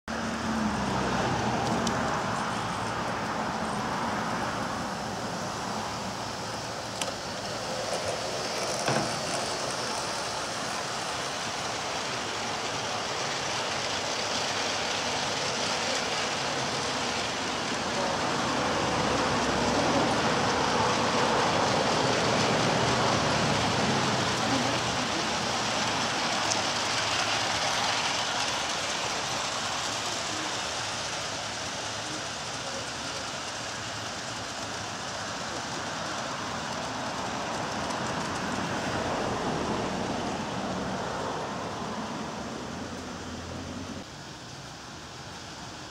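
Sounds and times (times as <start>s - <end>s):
model train wheels clattering: 1.4s - 41.8s.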